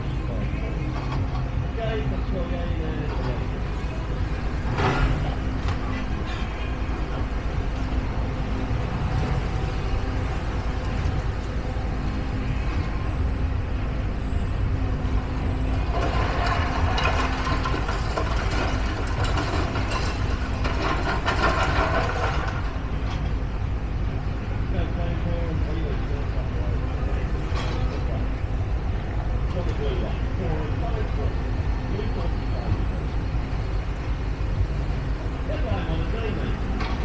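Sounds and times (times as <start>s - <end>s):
heavy engine rumbling: 0.0s - 37.0s.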